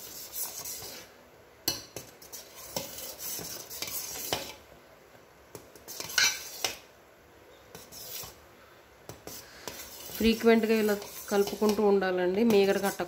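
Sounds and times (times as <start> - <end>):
metal spoon stirring in pot: 0.0 - 4.7, 5.5 - 6.9, 7.7 - 8.5, 9.1 - 13.0.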